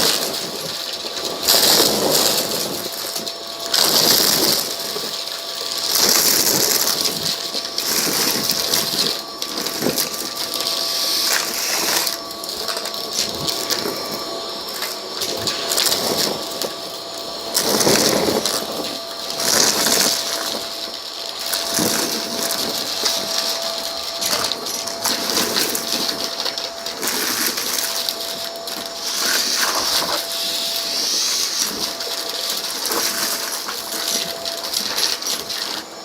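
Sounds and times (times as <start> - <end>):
grit rattling up vacuum nozzle: 0.0 - 36.0
vacuum cleaner motor whine: 0.0 - 36.0.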